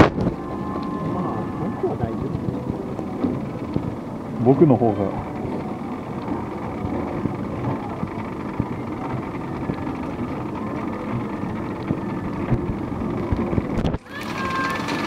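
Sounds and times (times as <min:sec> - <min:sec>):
rail car rolling rumble: 0:00.0 - 0:15.0.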